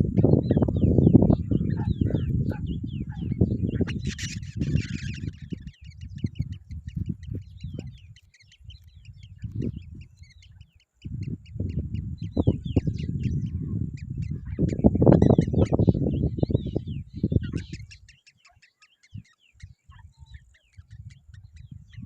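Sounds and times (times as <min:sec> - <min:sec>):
chicks chirping: 0:00.0 - 0:22.0.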